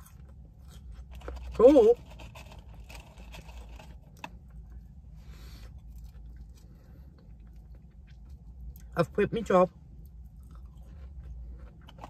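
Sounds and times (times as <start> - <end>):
quiet chewing: 0.0 - 8.9, 10.0 - 12.0
low steady hum: 0.0 - 12.0.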